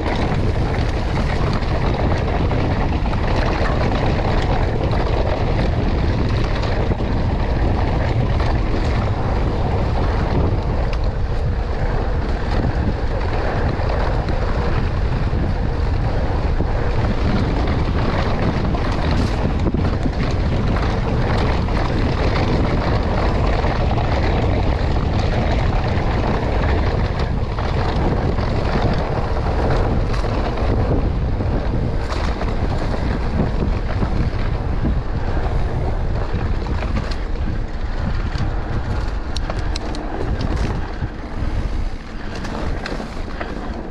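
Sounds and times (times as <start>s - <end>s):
mountain bike rattling on dirt: 0.0s - 43.9s
wind buffeting microphone: 0.0s - 43.9s.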